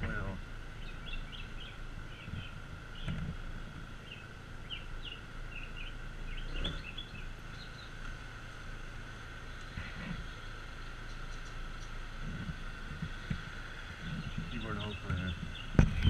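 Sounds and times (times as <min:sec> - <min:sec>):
birds chirping: 0:00.0 - 0:16.0
low rumbles: 0:00.0 - 0:16.0.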